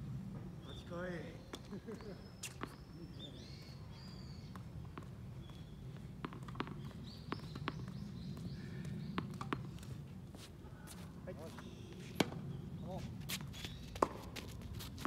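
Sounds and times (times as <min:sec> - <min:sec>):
footsteps on tennis court: 0:02.4 - 0:15.0.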